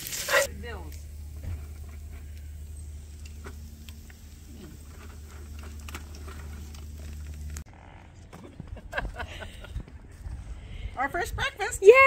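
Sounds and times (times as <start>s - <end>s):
steady low hum: 0.5s - 11.0s.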